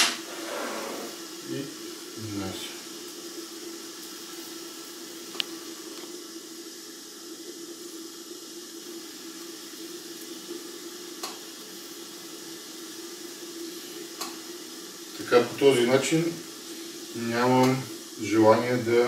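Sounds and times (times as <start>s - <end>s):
pancake sizzling in a frying pan: 0.0s - 19.0s.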